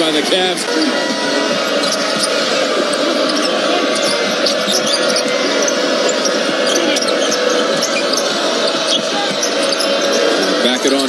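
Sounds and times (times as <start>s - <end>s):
crowd noise: 0.0s - 11.0s.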